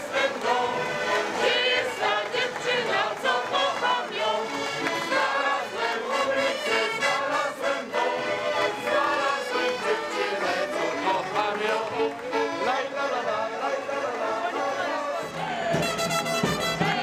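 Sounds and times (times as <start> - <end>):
accordion: 0.0 - 17.0
fiddle: 0.0 - 17.0
group singing in unison: 0.0 - 17.0.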